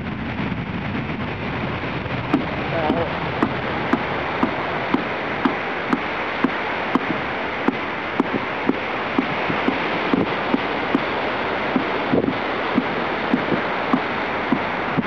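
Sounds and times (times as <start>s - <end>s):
jet airliner taking off: 0.0s - 15.0s.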